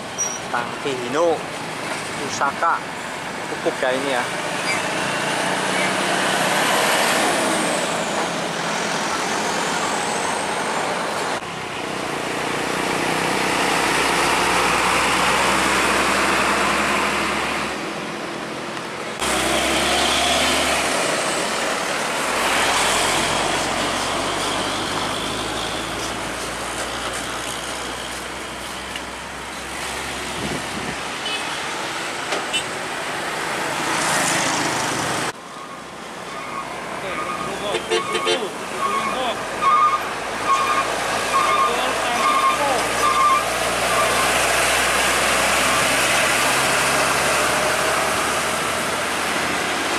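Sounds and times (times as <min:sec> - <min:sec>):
diesel trucks driving past: 0:00.0 - 0:49.9
tyre and road noise: 0:00.0 - 0:49.9.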